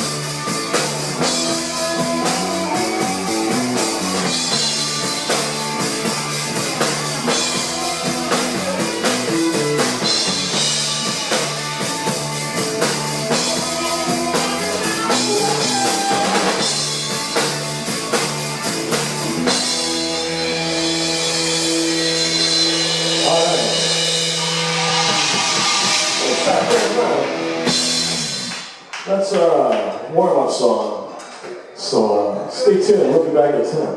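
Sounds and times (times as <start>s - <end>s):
guitar chords: 0.0s - 28.8s
drum kit beating: 0.0s - 28.9s.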